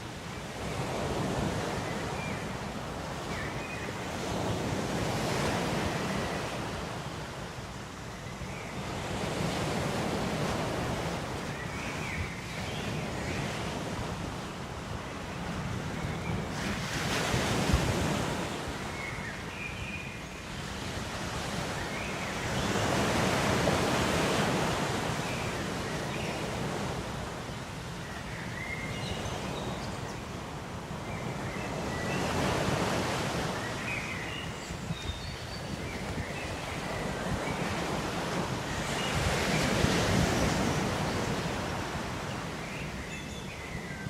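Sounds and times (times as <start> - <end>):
ocean surf washing on shore: 0.0 - 44.0.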